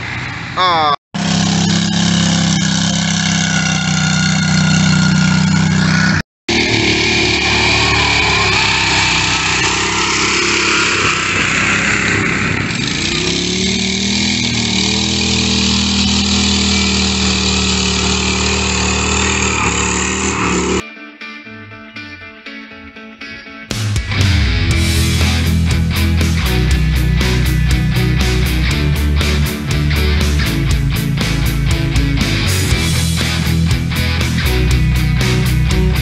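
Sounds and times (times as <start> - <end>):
lawn mower engines running hard: 1.2 - 20.8, 24.2 - 36.0.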